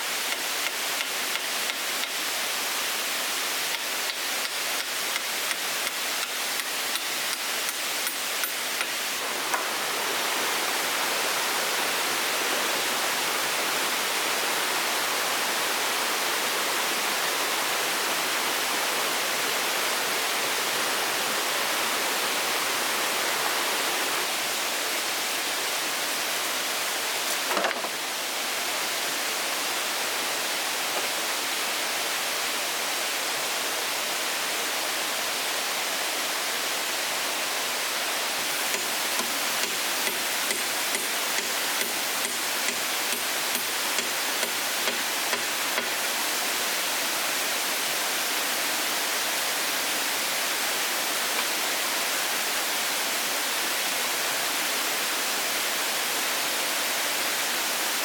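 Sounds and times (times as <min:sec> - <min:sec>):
water rushing hiss: 0:00.0 - 0:58.0.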